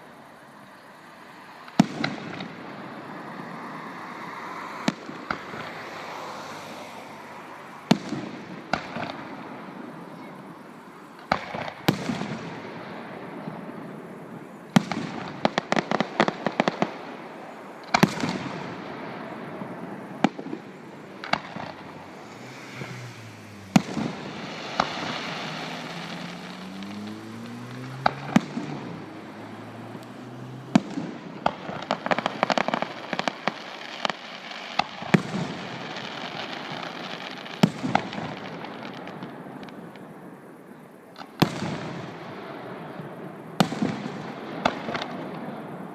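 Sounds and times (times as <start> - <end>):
firework crackling: 0.0 - 40.5, 41.1 - 45.9.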